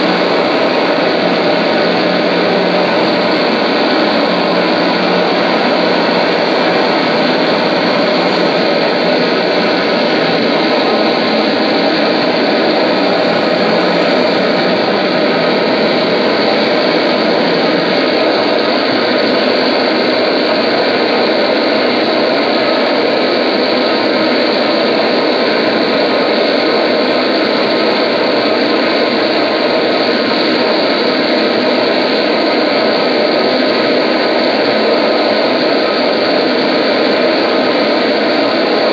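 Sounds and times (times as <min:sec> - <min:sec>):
distorted electric guitar drone: 0:00.0 - 0:38.9.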